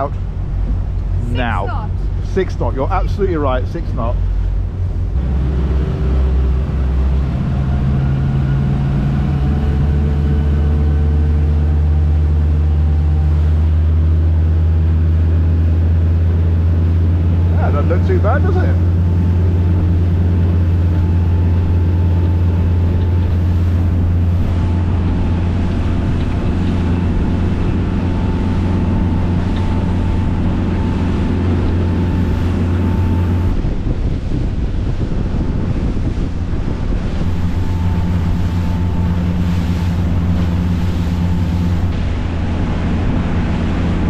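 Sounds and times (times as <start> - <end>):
motor boat engine drone: 0.0 - 44.0
water noise: 0.0 - 44.0
wind on microphone: 0.0 - 44.0.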